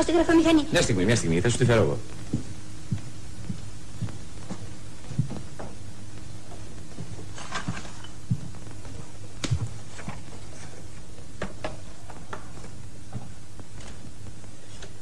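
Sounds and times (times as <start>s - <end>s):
steady low hum: 0.0s - 15.0s
footsteps on tiled floor: 2.1s - 15.0s.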